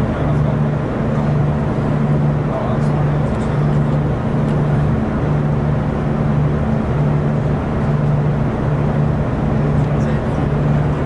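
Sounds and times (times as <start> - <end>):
railcar engine hum: 0.0 - 11.0
wheels rumbling on track: 0.0 - 11.0.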